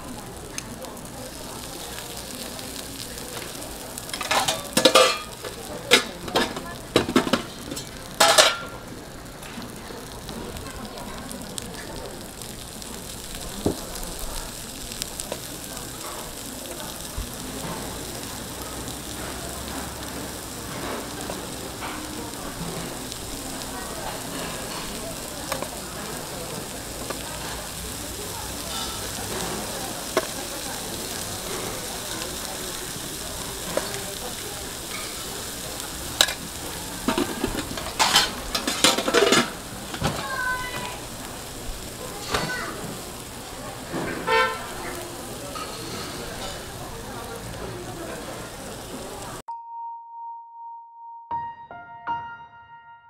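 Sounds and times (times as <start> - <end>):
batter sizzling on griddle: 0.0 - 49.4.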